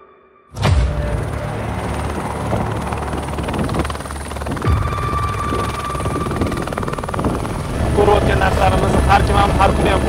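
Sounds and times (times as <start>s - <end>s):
helicopter rotor beating: 0.6s - 10.0s
high turbine whine: 0.6s - 10.0s.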